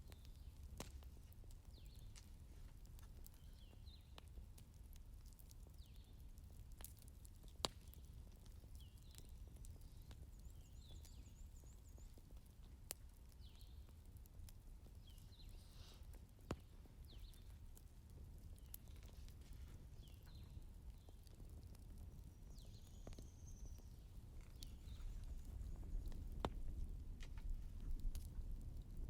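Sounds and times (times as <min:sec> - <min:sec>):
fire crackling and popping: 0:00.0 - 0:29.0
low steady fire rumble: 0:00.0 - 0:29.0.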